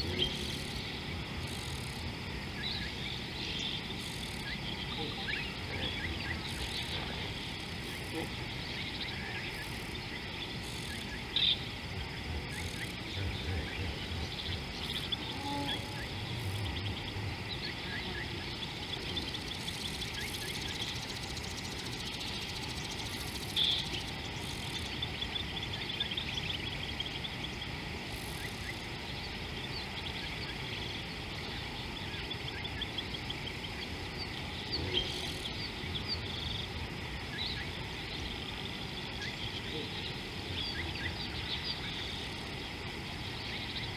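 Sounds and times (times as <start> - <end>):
insects chirring and chirping: 0.0 - 43.9.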